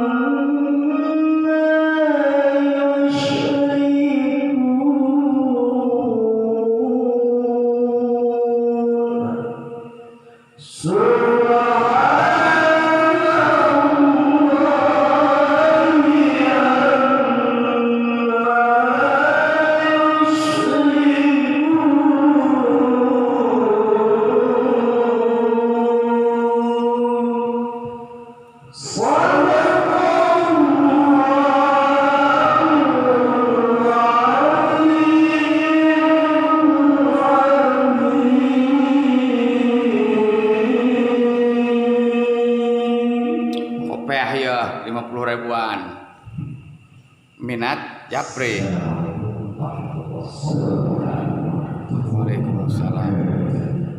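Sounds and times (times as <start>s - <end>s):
person singing long wavering notes: 0.0s - 44.2s.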